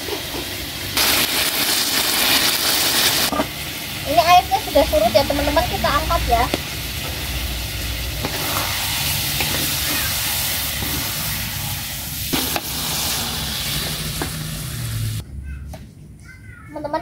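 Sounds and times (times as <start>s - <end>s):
chicken sizzling in a wok: 0.0s - 15.2s.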